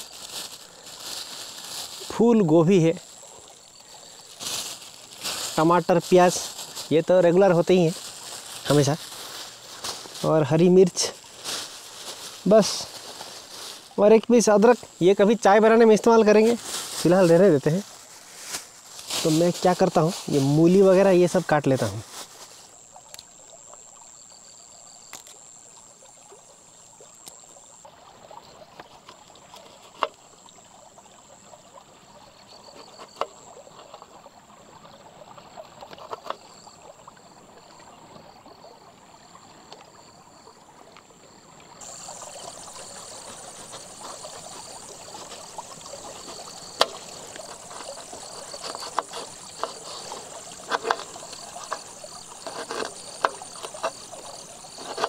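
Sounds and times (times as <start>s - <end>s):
creek water trickling: 0.0s - 55.0s.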